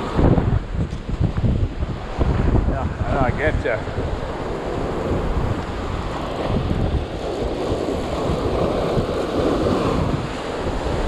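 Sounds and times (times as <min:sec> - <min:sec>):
surf washing over rocks: 0:00.0 - 0:11.0
wind buffeting microphone: 0:00.0 - 0:11.0.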